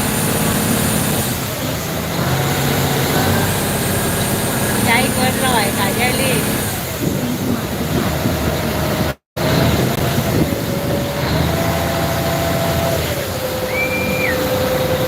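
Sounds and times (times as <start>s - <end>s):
boat engine running: 0.0s - 15.0s
water wash: 0.0s - 15.0s
wind noise: 0.0s - 15.0s.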